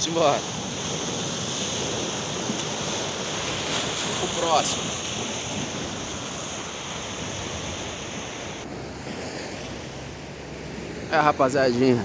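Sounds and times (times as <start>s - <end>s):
surf breaking on rocks: 0.0s - 9.7s.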